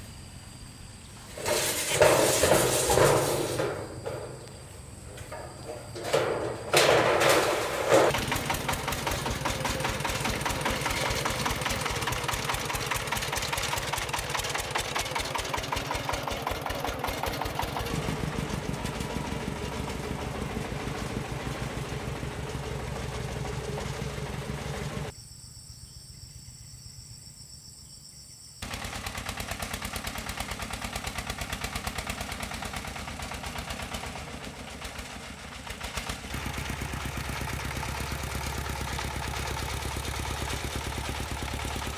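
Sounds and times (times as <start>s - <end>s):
small engine running: 1.3s - 25.1s, 28.6s - 41.9s.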